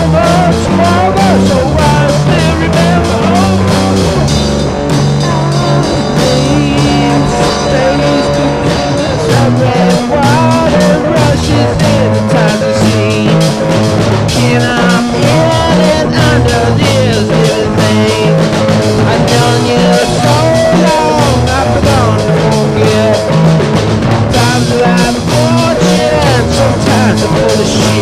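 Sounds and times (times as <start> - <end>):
folk-rock band playing: 0.0 - 28.0.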